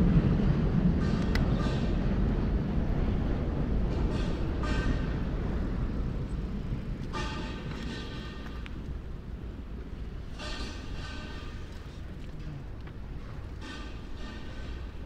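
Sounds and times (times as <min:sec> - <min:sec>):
passing traffic rumble: 0:00.0 - 0:15.0.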